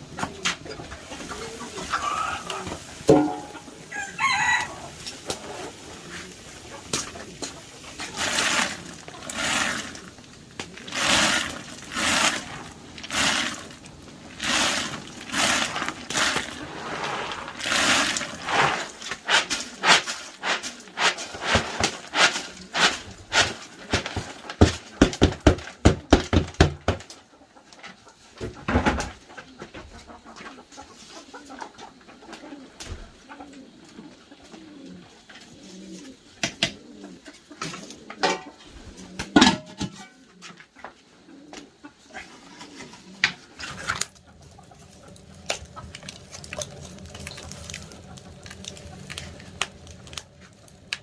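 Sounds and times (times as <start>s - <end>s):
chickens clucking: 0.0s - 26.3s, 26.9s - 51.0s.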